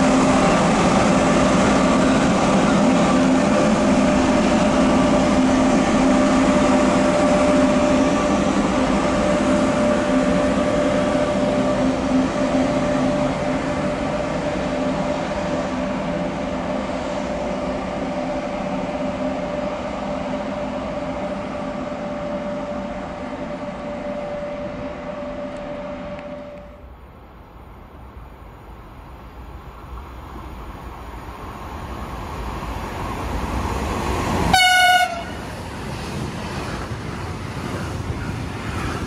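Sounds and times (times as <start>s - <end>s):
constant train tone: 0.0s - 39.0s
electric train rumbling past: 0.0s - 39.0s.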